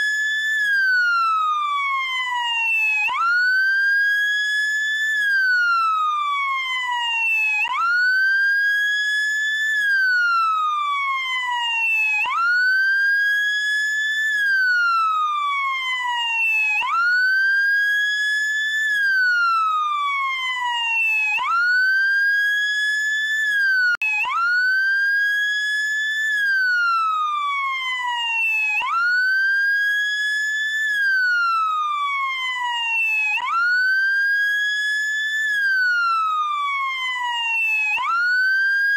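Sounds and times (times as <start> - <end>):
wailing siren: 0.0 - 38.9.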